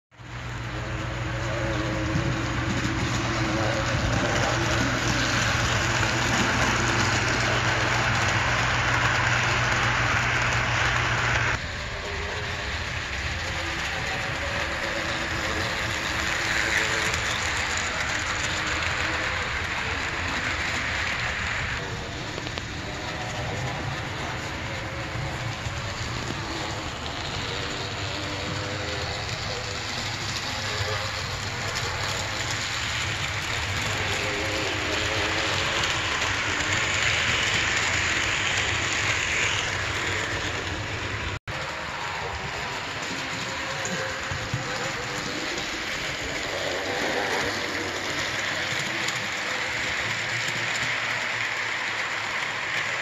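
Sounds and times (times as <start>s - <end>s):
model locomotive motor: 0.2s - 53.0s
model train wheels rolling on rail: 0.2s - 53.0s.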